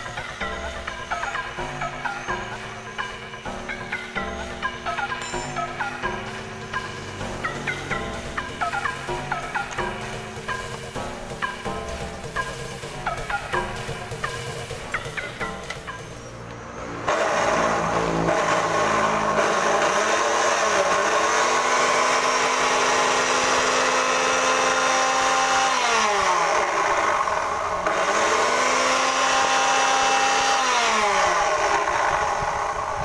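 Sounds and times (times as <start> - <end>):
chop saw motor whining: 0.0 - 33.0.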